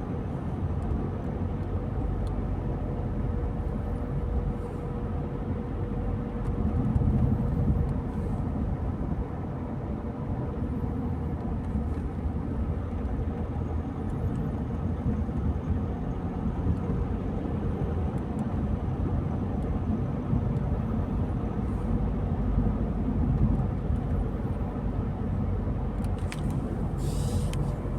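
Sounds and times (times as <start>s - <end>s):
car engine and tyre rumble: 0.0s - 27.9s.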